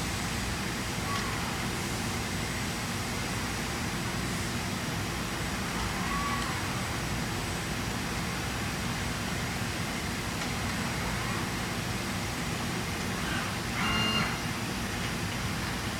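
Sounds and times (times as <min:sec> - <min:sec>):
machine shop machinery noise: 0:00.1 - 0:15.9.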